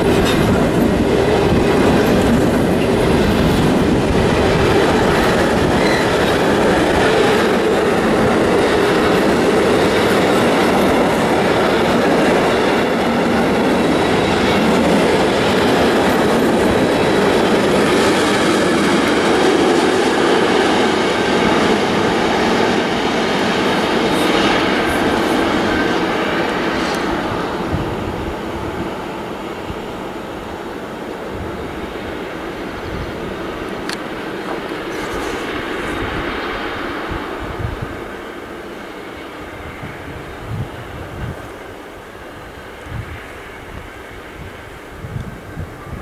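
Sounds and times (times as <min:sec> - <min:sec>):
train wheels rolling on rails: 0:00.0 - 0:46.0.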